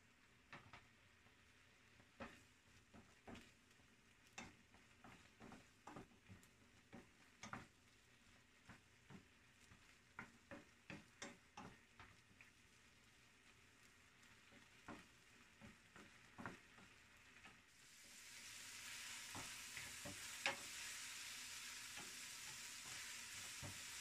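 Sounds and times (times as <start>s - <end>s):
faint frying sizzle: 0.0s - 24.0s
wooden spatula scraping a pan: 2.1s - 24.0s.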